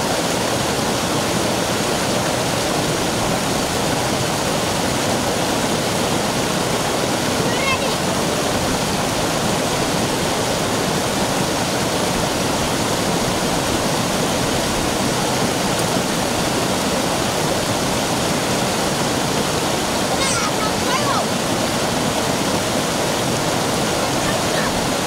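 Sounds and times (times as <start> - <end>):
stream rushing over rock: 0.0 - 25.0.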